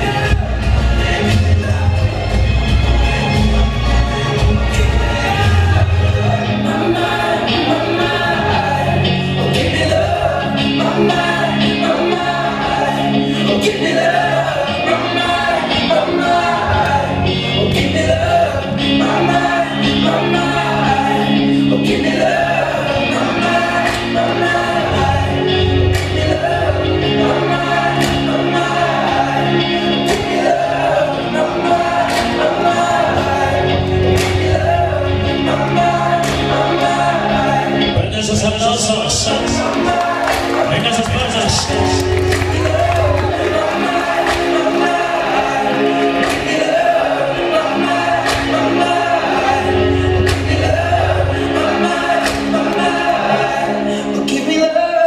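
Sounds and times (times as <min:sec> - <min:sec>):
slow song with choir-like singing: 0:00.0 - 0:55.0.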